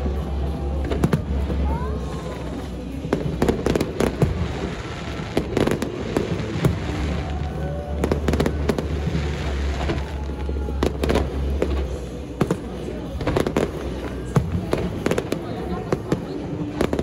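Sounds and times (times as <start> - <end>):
background music: 0.0 - 17.0
fireworks bangs and crackling: 0.0 - 17.0.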